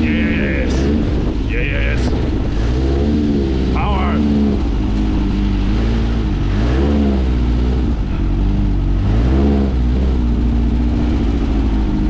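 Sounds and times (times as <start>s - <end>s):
dune buggy engine revving: 0.0s - 12.0s.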